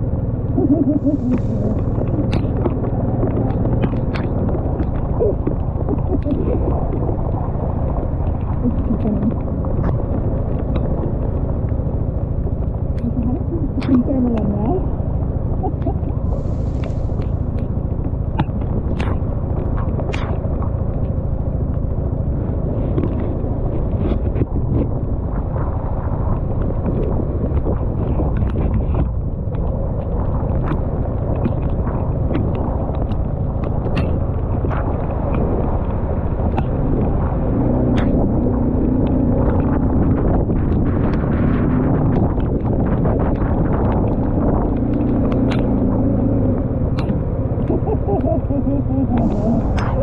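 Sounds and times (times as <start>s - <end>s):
low engine hum: 0.0s - 50.0s
wind and motorcycle engine rumble: 0.0s - 50.0s.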